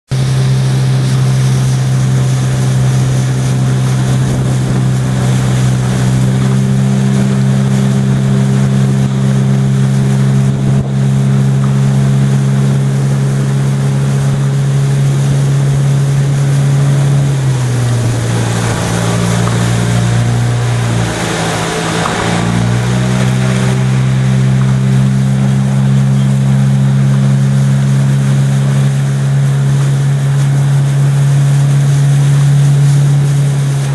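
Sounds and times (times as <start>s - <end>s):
outboard motor running: 0.1s - 33.9s.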